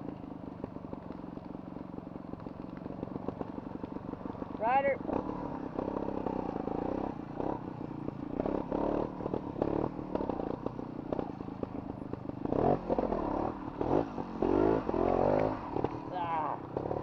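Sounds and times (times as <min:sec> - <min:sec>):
knocks and clatter from bike: 0:00.0 - 0:17.0
motorcycle engine revving: 0:00.0 - 0:17.0.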